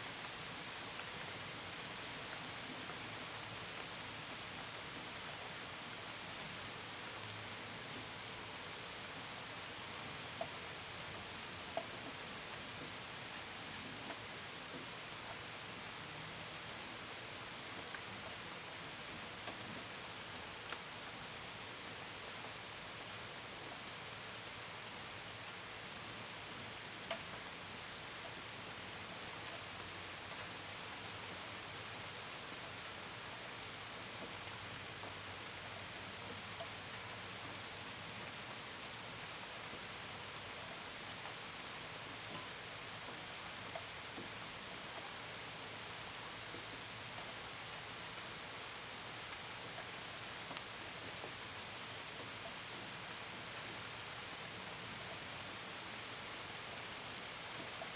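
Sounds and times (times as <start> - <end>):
rain pattering on a window: 0.0 - 57.9.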